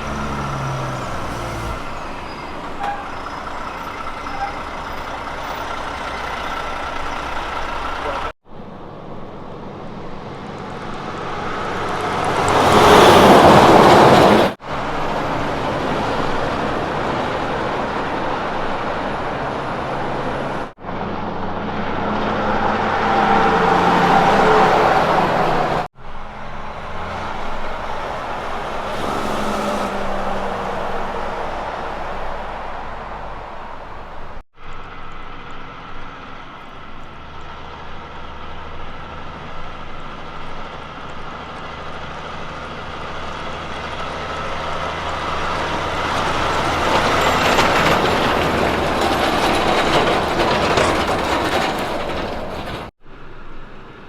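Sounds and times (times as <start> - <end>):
trucks passing on highway: 0.0 - 54.0.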